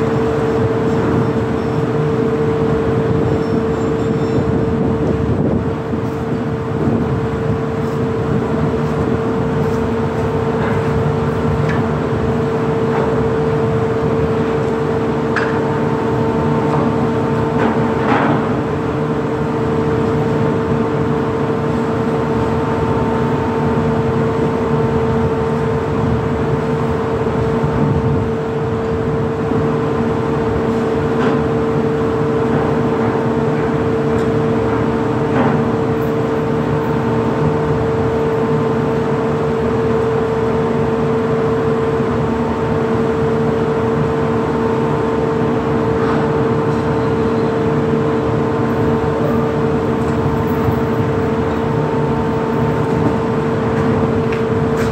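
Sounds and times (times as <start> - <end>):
heavy machinery droning: 0.0 - 54.9.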